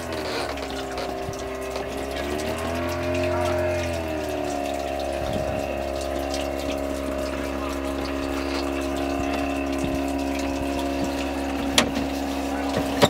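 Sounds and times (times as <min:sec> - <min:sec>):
electric water pump humming: 0:00.0 - 0:13.0
water flowing: 0:00.0 - 0:13.0.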